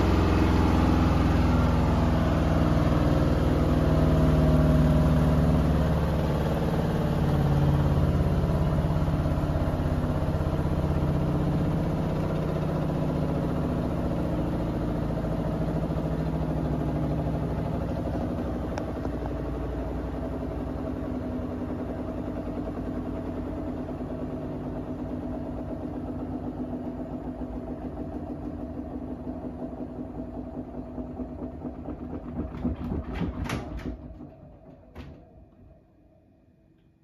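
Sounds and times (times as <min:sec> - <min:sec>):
washing machine spinning: 0:00.0 - 0:37.0.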